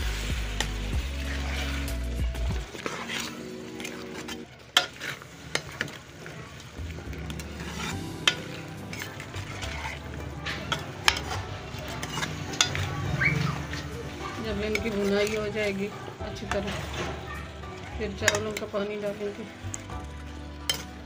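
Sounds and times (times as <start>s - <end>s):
vegetables sizzling in oil: 0.0s - 21.0s
spoon scraping a metal pot: 2.7s - 6.0s, 7.2s - 21.0s.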